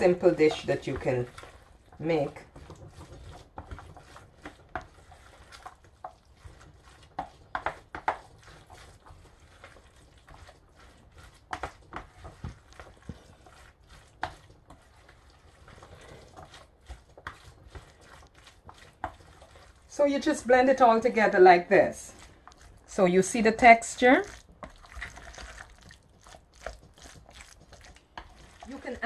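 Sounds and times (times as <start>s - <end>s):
spatula scraping plastic bowl: 0.0s - 29.0s.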